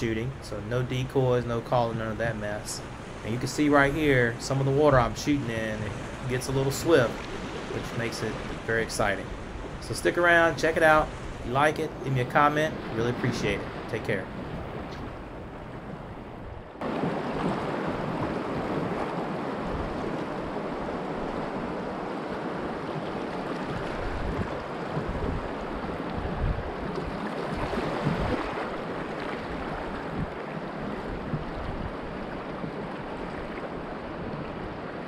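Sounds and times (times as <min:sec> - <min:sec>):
river water rushing: 0:01.5 - 0:35.0
wind buffeting microphone: 0:02.0 - 0:34.9.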